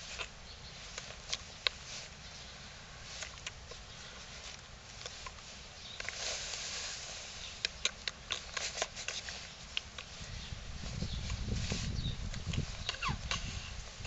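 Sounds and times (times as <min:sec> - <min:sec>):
rustling and handling noise: 0:00.0 - 0:14.0.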